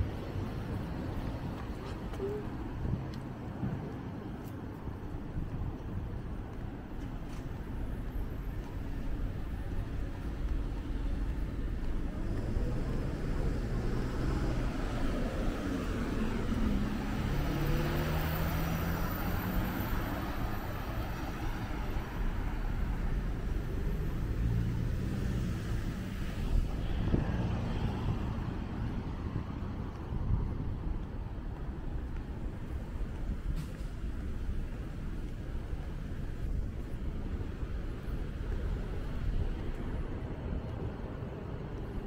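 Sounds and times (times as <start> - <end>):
cars passing by: 0.0 - 42.0.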